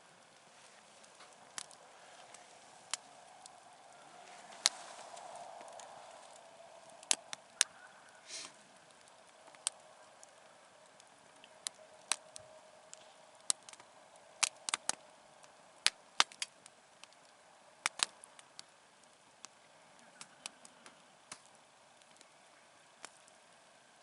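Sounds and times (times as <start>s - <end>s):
campfire crackling and popping: 0.0s - 24.0s
faint steady hiss: 0.0s - 24.0s.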